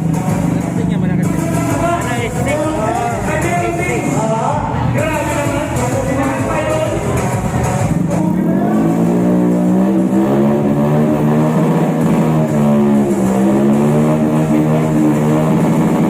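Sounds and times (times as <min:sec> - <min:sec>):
vehicle engine revving loud exhaust: 0:00.0 - 0:16.0.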